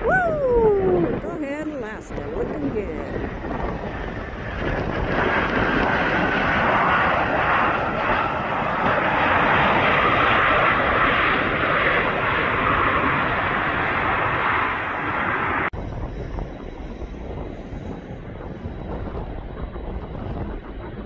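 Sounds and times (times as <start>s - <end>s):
airplane engines passing: 0.0s - 21.0s.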